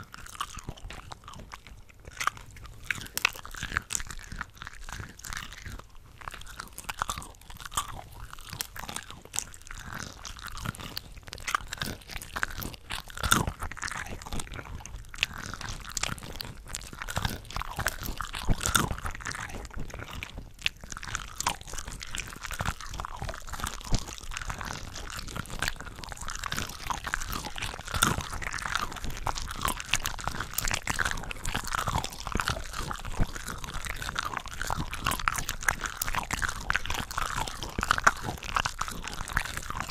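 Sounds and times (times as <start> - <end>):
crunching and wet chewing: 0.0 - 39.9.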